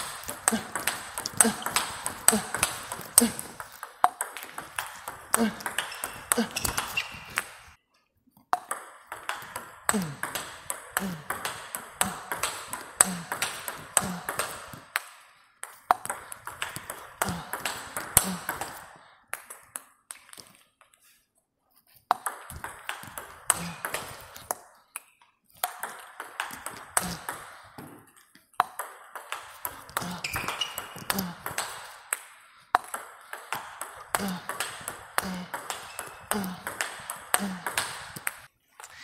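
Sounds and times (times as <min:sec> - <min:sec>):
ball bouncing on table: 0:00.0 - 0:07.6, 0:08.5 - 0:14.8, 0:15.6 - 0:18.8, 0:22.1 - 0:24.6, 0:25.6 - 0:31.9, 0:32.8 - 0:38.5
ball clicking off rackets: 0:00.0 - 0:07.8, 0:08.5 - 0:18.8, 0:22.1 - 0:38.5.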